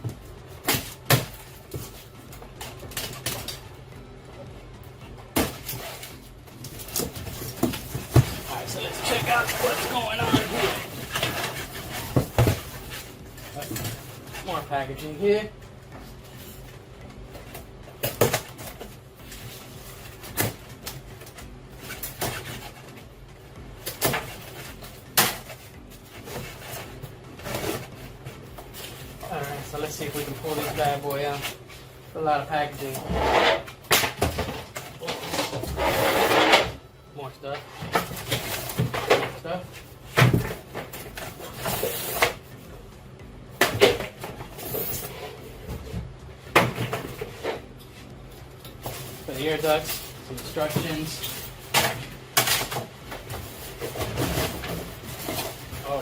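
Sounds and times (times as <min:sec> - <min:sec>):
low hum: 0:00.0 - 0:50.6.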